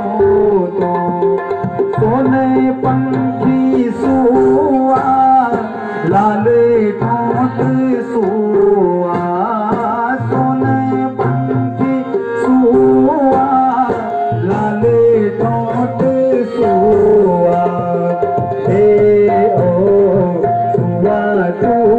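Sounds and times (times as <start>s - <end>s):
harmonium playing: 0.0s - 21.9s
person singing: 0.0s - 21.9s
tabla drumming: 0.0s - 21.9s.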